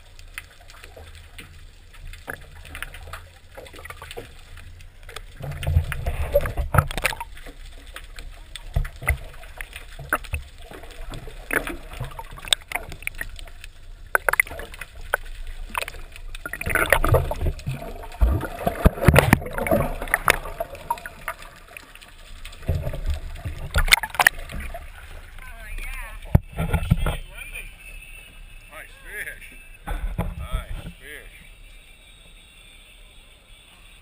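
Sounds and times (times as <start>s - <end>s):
water sloshing underwater: 0.0s - 32.5s.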